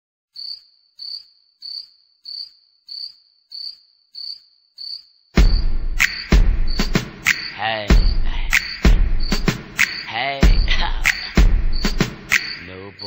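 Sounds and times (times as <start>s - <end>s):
cricket chirping: 0.4s - 13.0s.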